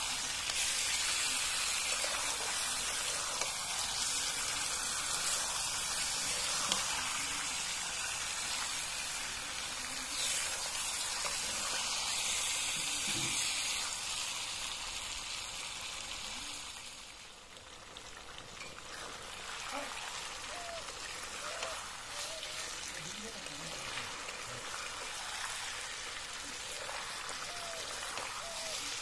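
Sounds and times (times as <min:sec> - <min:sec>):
curry frying in a metal wok: 0:00.0 - 0:29.0.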